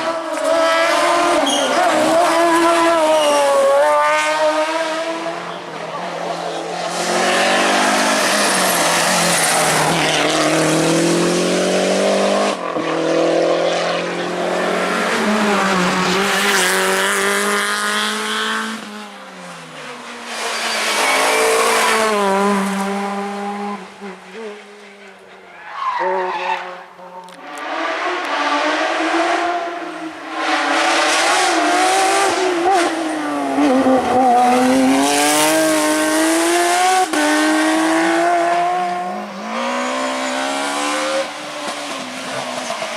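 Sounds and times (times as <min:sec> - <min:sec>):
rally car engines at full throttle: 0:00.0 - 0:42.9.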